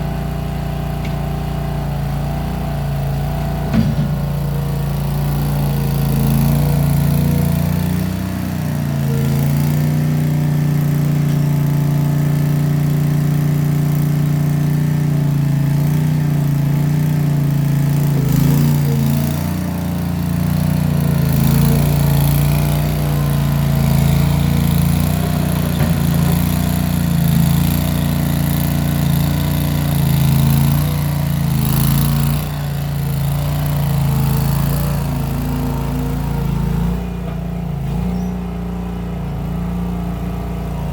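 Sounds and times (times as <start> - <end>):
skid steer engine under load: 0.0 - 40.9.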